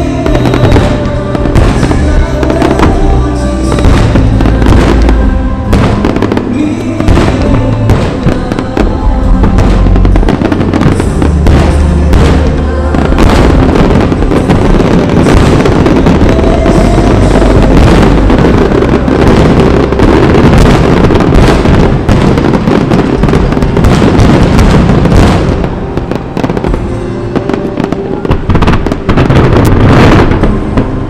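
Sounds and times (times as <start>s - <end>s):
deep rumble: 0.0s - 31.0s
fireworks bangs and crackles: 0.0s - 31.0s.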